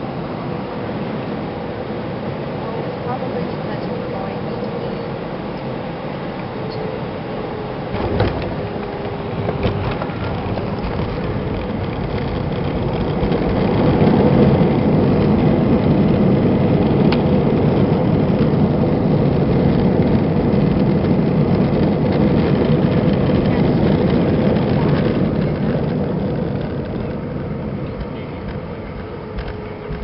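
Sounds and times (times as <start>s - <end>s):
airplane cabin engine noise: 0.0s - 30.0s.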